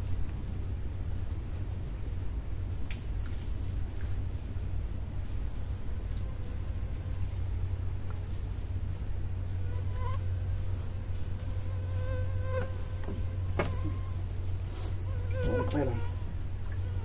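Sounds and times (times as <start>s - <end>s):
low hum: 0.0s - 17.0s
night insects trilling: 0.0s - 17.0s.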